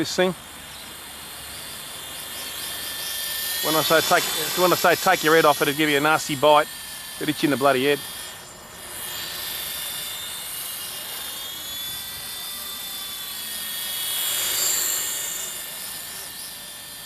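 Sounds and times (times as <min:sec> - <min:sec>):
toy helicopter rotor whine: 0:00.0 - 0:17.0.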